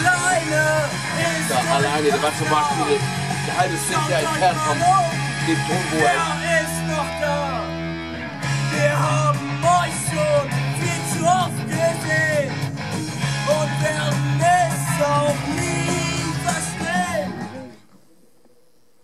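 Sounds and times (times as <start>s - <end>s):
person singing: 0.0s - 7.8s, 8.5s - 17.7s
rock guitar chords: 0.0s - 17.9s.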